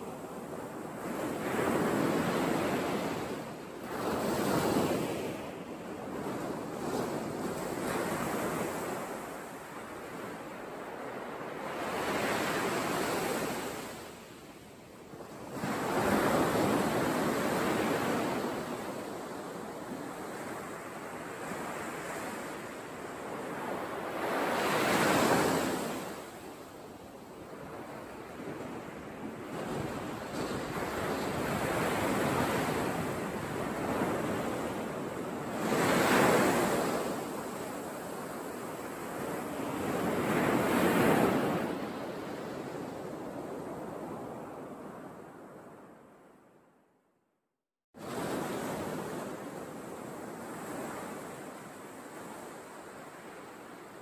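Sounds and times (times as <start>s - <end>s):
sea waves washing ashore: 0.0s - 46.0s, 48.0s - 54.0s.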